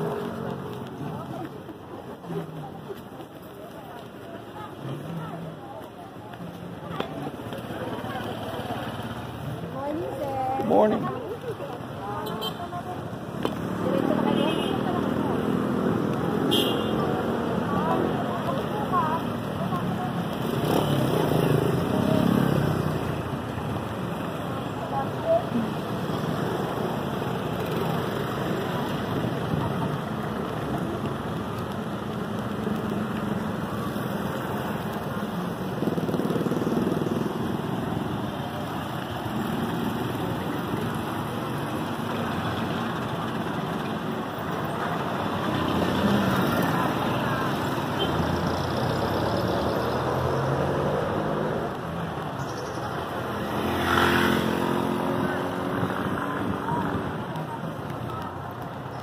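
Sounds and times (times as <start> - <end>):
cars and motorcycles passing: 0.0 - 59.0.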